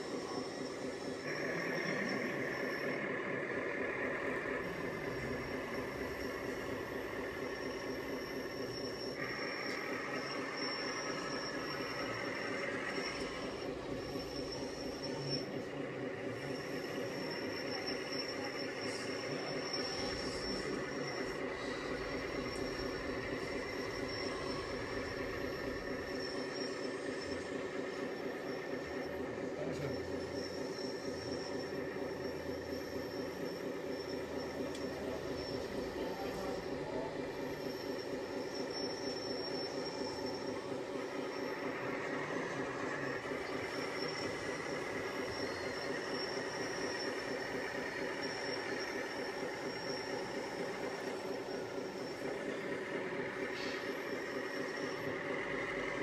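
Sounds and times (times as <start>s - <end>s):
high motor whine: 0.0s - 56.0s
mechanical hum: 0.0s - 56.0s
model machinery motor drone: 0.0s - 56.0s.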